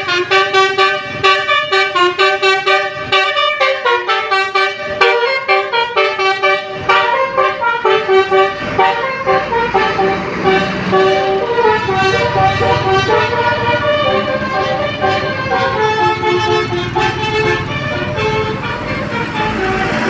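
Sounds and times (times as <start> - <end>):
multi-tone bus horn tune: 0.0 - 20.0.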